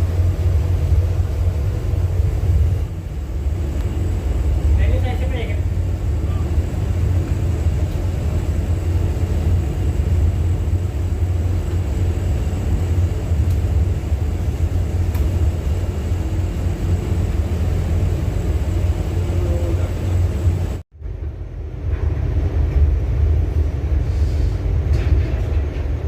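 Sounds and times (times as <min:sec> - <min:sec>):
loud low rumble: 0:00.0 - 0:25.6.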